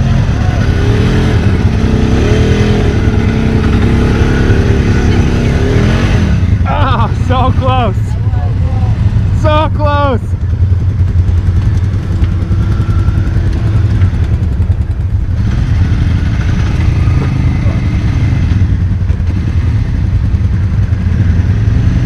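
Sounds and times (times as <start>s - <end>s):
quad bike engine humming: 0.0s - 22.0s.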